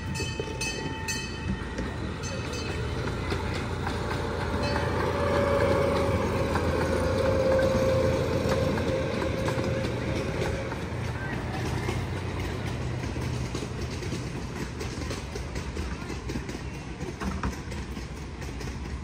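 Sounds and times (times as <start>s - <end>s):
train cars rumbling: 0.0s - 19.0s
wheels clicking: 0.0s - 19.0s.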